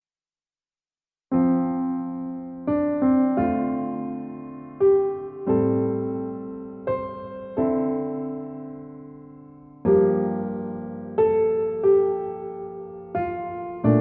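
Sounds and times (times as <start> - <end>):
slow piano chords: 1.3 - 14.0.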